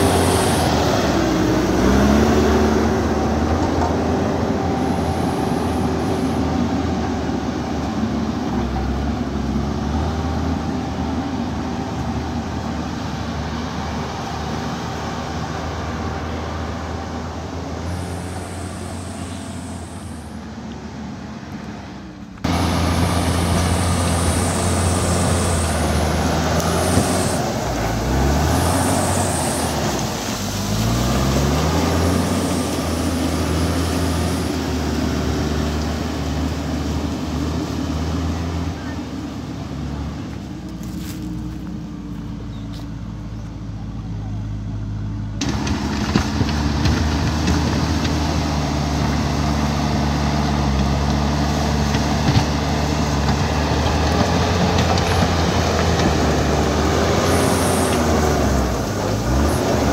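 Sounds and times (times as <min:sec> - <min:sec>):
engine revving: 0:00.0 - 0:41.7, 0:44.5 - 0:59.9
diesel engine running: 0:00.0 - 0:59.9.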